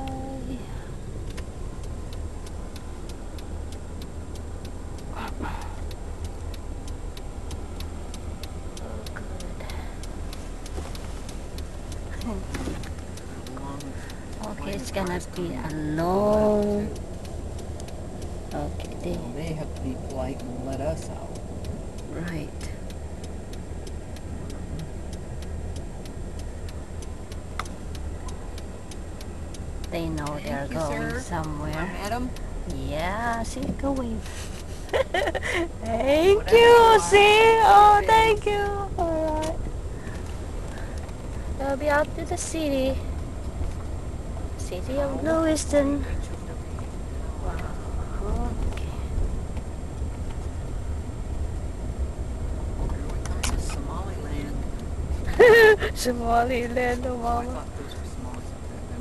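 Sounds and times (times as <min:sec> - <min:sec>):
car engine idling: 0:00.0 - 0:59.0
turn signal clicking: 0:00.0 - 0:59.0.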